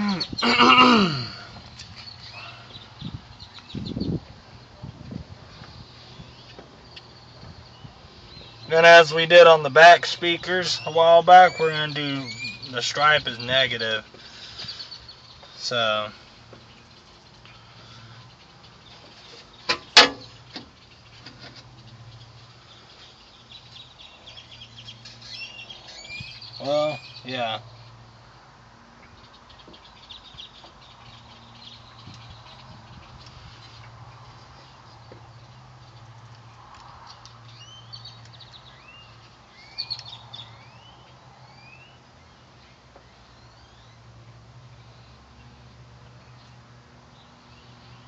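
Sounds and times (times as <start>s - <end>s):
birds chirping rising calls: 0.0s - 28.2s, 28.8s - 48.0s.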